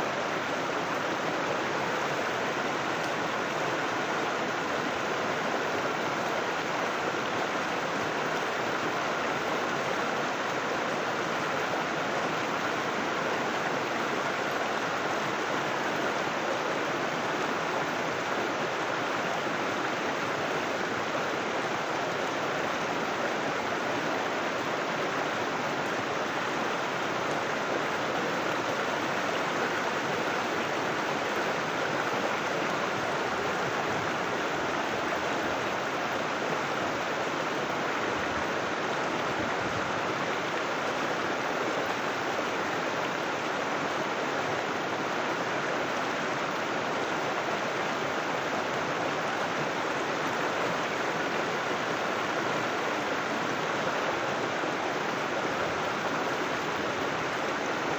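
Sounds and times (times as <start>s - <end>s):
river water rushing over rocks: 0.0s - 57.9s.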